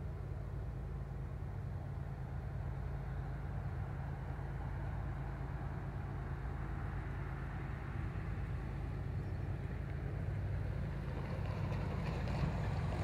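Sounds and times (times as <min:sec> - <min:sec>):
heavy engine rumbling: 0:00.0 - 0:13.0.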